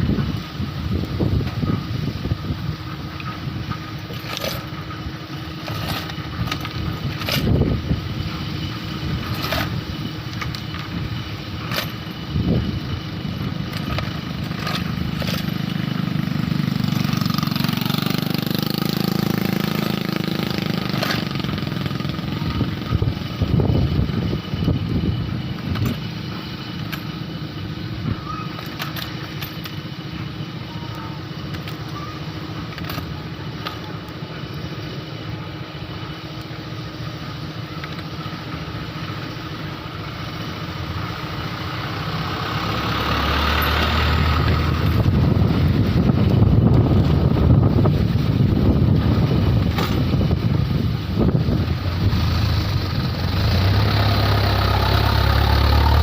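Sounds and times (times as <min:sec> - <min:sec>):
louder engine sound: 0:00.0 - 0:56.0
motor running steadily: 0:00.0 - 0:56.0.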